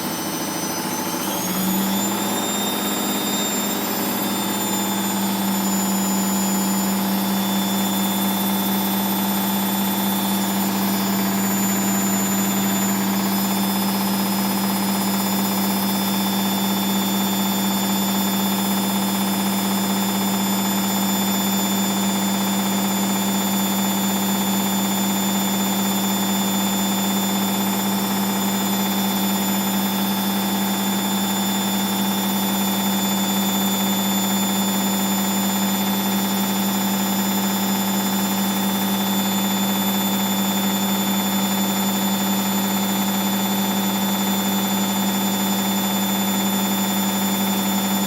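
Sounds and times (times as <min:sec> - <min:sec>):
washing machine spinning: 0:00.0 - 0:48.0.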